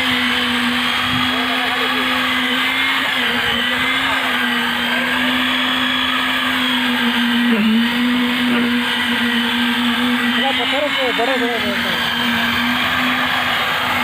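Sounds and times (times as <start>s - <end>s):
machinery motor humming: 0.0s - 14.0s.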